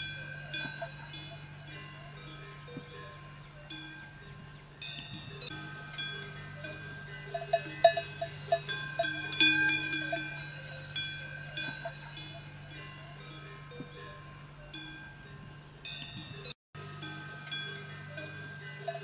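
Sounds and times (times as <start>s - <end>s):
metal bells clanking and ringing: 0.0s - 19.0s
steady low hum: 0.0s - 19.0s.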